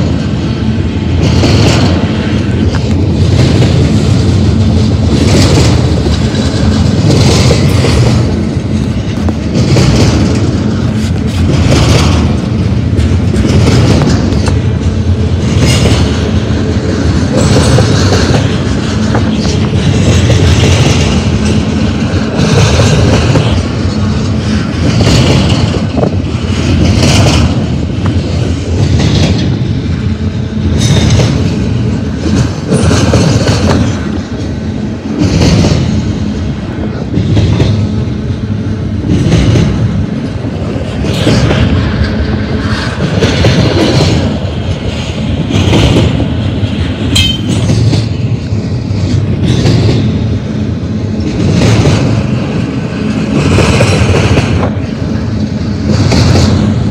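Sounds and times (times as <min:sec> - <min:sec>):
train wheels clattering on rails: 0:00.0 - 0:56.9.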